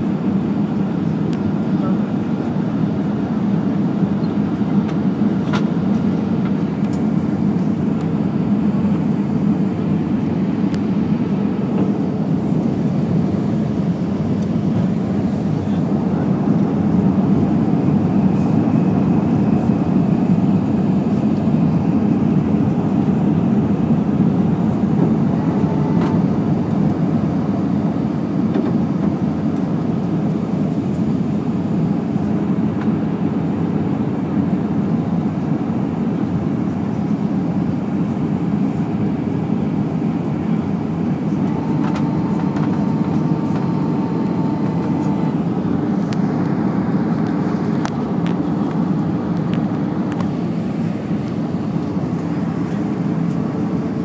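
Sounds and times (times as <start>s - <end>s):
airliner engine rumble: 0.0s - 54.0s.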